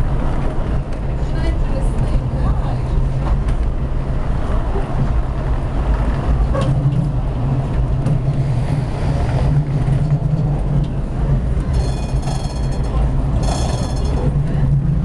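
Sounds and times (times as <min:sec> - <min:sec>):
tram low rumble: 0:00.0 - 0:15.0.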